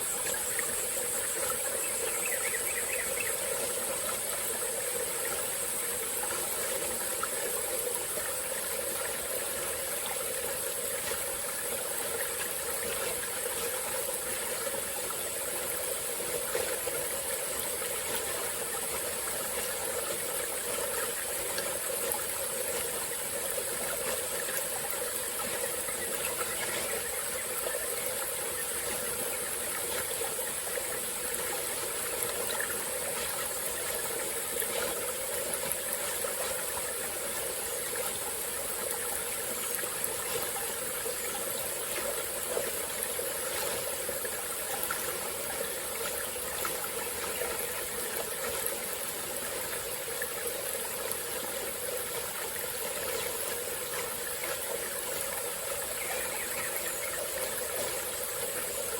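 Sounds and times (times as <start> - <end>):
forest stream flowing: 0.0 - 58.9.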